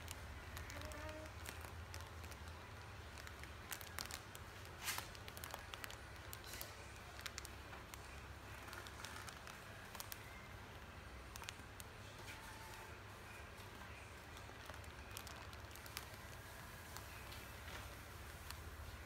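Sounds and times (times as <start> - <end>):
small clicks and crackles: 0.0 - 19.0.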